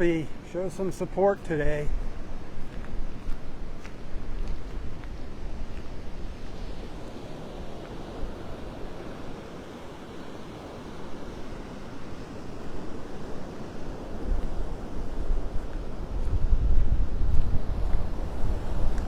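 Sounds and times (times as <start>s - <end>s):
surf washing ashore: 0.0s - 19.0s
wind buffeting microphone: 0.0s - 19.0s.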